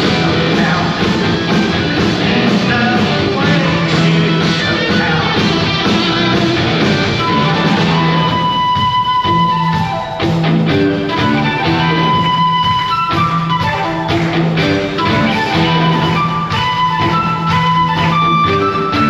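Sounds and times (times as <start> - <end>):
live rock band playing: 0.0 - 19.0
flute melody: 2.8 - 19.0.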